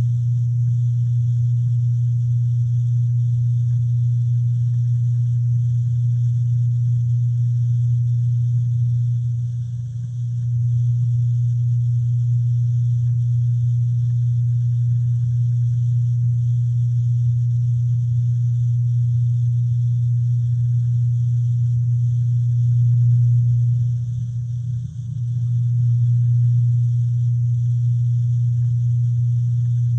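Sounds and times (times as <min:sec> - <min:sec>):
low mechanical hum: 0:00.0 - 0:29.9.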